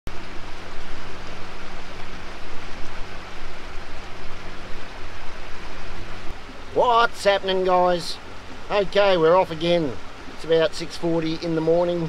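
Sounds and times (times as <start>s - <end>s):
outboard motor humming: 0.1s - 12.0s
water rushing: 0.1s - 12.0s.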